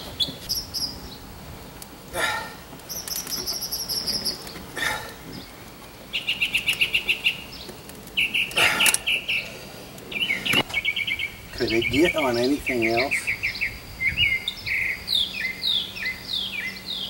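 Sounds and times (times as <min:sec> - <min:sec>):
songbirds trilling: 0:00.0 - 0:17.0.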